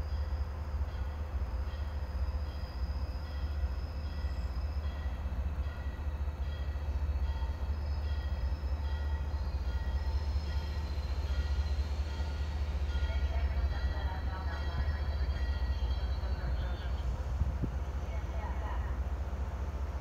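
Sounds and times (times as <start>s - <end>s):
distant train rumble: 0.0s - 20.0s.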